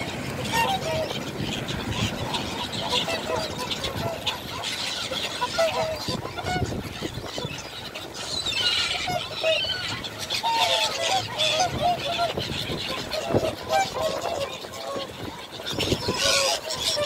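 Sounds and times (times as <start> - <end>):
birds chirping: 0.0 - 17.0
flock of birds calling: 0.0 - 17.0.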